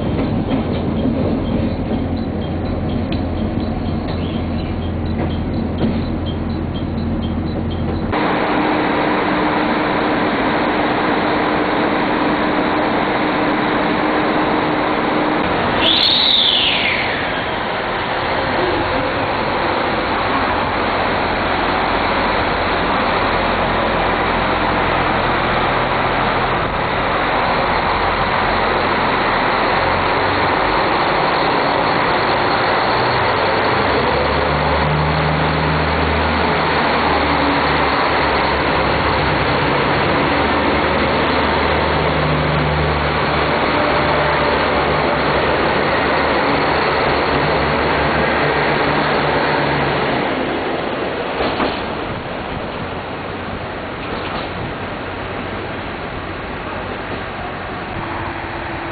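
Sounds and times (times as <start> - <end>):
diesel railcar engine drone: 0.0 - 58.9
train cars rolling past: 0.0 - 58.9.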